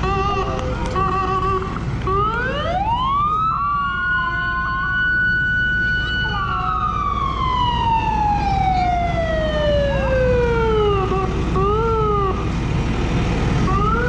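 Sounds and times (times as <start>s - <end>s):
siren chirps: 0.0s - 12.5s
fire truck siren wail: 0.0s - 14.0s
low engine rumble: 0.0s - 14.0s.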